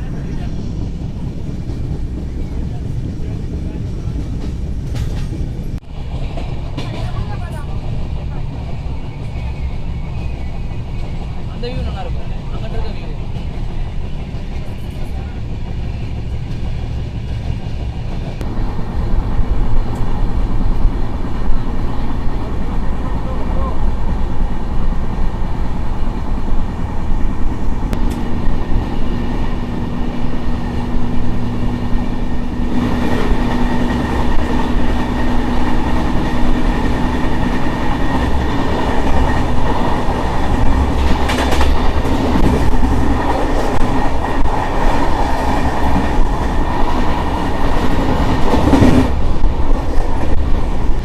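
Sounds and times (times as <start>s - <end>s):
train wheels clattering on rails: 0.0s - 51.0s.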